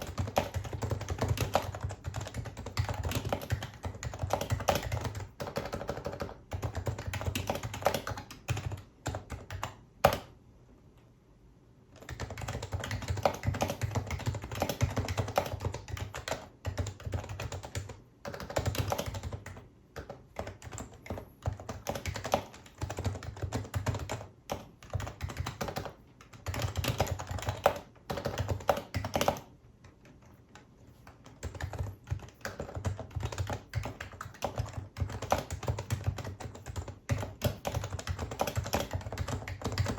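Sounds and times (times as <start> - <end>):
keyboard typing: 0.0 - 10.4, 12.0 - 39.9.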